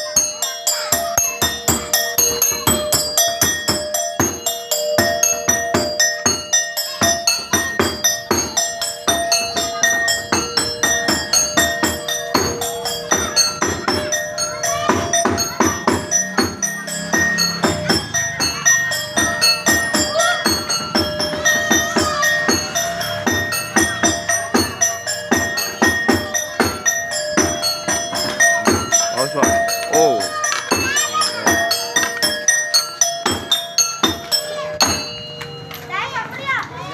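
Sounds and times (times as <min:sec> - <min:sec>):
fast rhythmic percussion music: 0:00.0 - 0:36.9.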